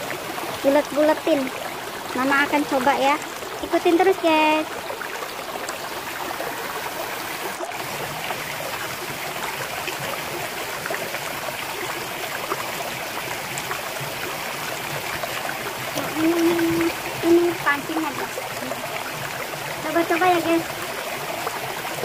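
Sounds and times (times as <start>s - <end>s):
running water trickling and splashing: 0.0s - 22.0s.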